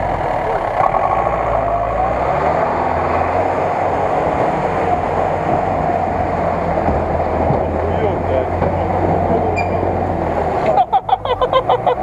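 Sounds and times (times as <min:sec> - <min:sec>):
truck engine driving through mud: 0:00.0 - 0:12.0.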